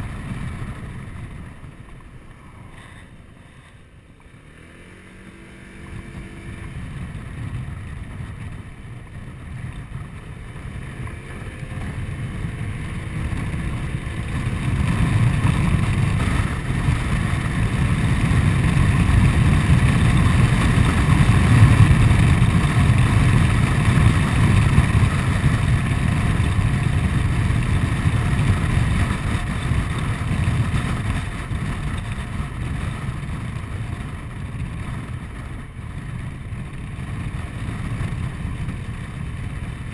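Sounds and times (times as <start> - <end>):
scooter engine running: 0.0 - 39.9
wind rushing over microphone: 0.0 - 39.9.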